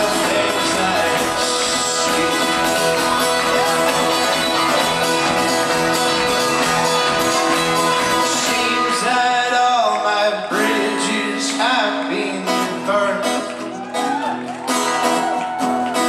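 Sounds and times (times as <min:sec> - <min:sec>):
person singing: 0:00.0 - 0:14.3
folk-rock band playing live: 0:00.0 - 0:16.0
strummed acoustic guitar: 0:00.0 - 0:16.0.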